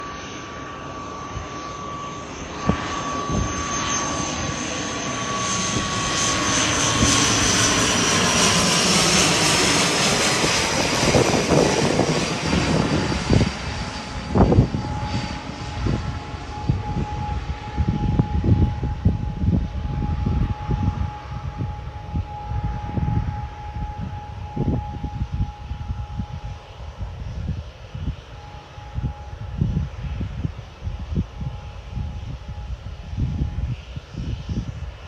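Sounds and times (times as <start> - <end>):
turboprop engines whining: 0.0 - 35.0.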